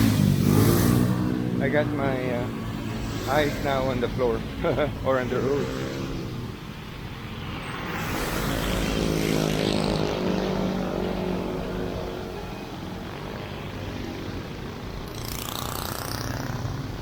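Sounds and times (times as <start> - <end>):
background noise: 0.0 - 17.0
passing engine hum: 0.0 - 17.0.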